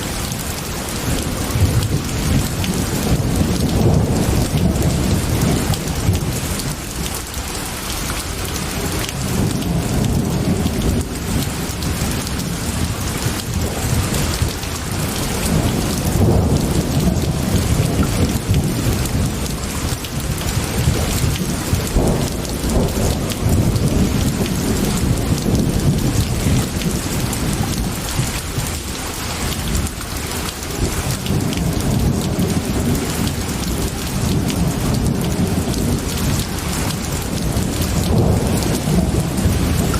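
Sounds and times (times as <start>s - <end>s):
heavy rain on glass: 0.0s - 39.9s
rolling thunder rumble: 0.1s - 7.1s, 8.5s - 39.9s.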